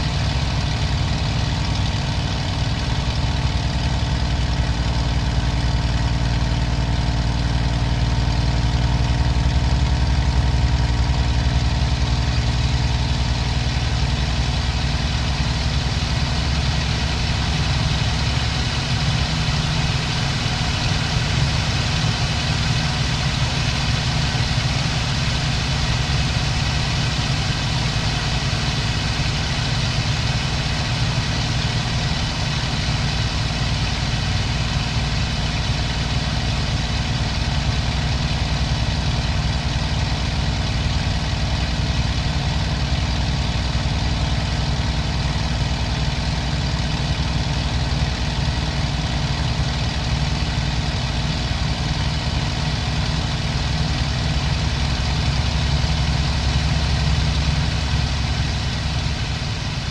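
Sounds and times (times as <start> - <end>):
aircraft engine running: 0.0 - 59.9.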